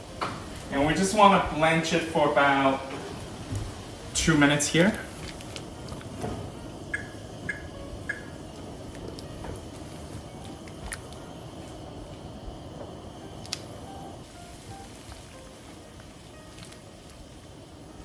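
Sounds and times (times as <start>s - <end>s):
water boiling and bubbling: 0.0s - 18.0s.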